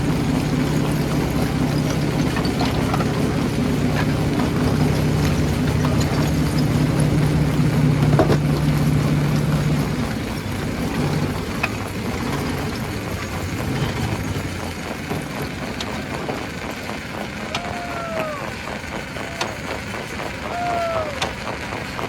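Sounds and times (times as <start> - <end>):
constant rattling: 0.0 - 22.0
heavy machine engine running: 0.0 - 22.0.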